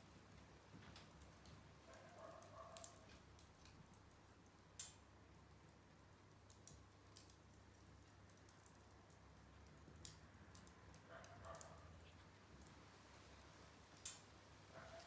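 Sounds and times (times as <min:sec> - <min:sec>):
small wood fire crackling: 0:00.0 - 0:15.0.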